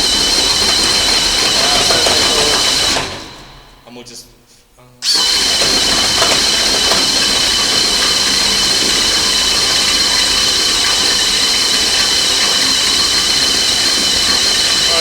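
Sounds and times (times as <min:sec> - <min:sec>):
drain machine grinding in pipe: 0:00.0 - 0:04.0, 0:05.0 - 0:15.0.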